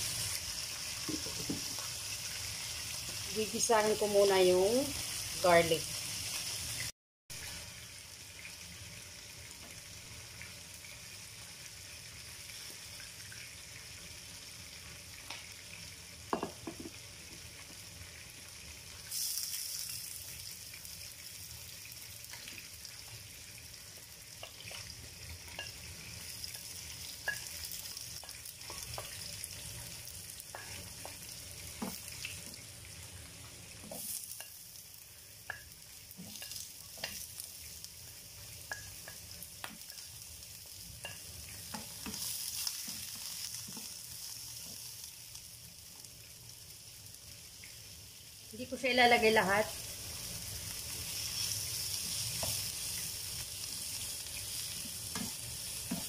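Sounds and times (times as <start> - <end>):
oil sizzling in a frying pan: 0.0 - 56.0.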